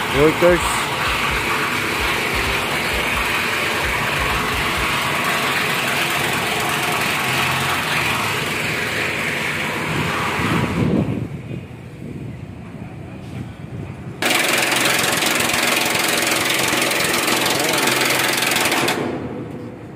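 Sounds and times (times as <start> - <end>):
vehicle engine running: 0.0 - 12.0, 14.2 - 19.9.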